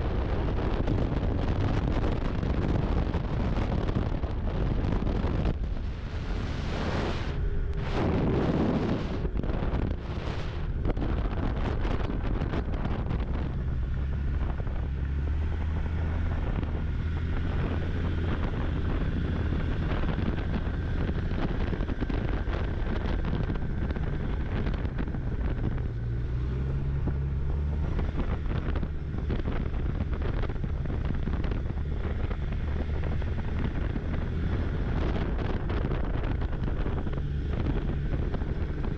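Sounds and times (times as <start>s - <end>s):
snowmobile engine running: 0.0s - 38.9s
wind buffeting microphone: 0.0s - 38.9s.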